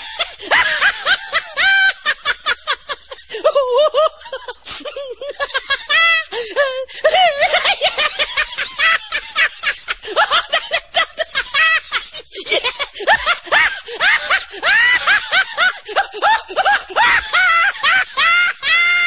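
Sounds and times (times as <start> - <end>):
person laughing hard: 0.0 - 19.0.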